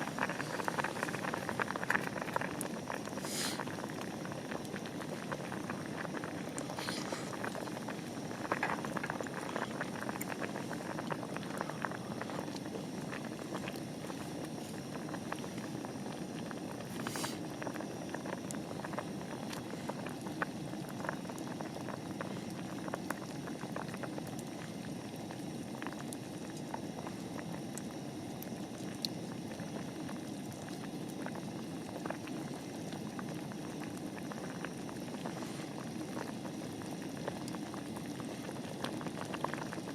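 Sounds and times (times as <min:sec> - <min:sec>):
liquid boiling in a pot: 0:00.0 - 0:39.9.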